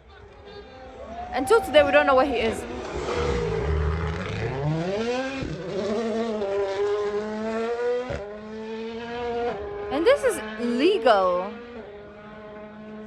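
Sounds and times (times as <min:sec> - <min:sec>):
car engine accelerating hard: 0:00.1 - 0:13.0.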